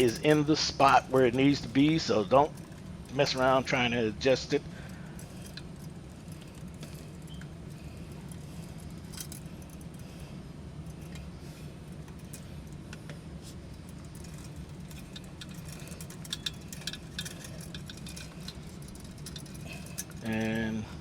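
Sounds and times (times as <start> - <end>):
metal clinks: 0.0 - 21.0
small metal parts clicking: 0.0 - 21.0
steady low hum: 0.0 - 21.0.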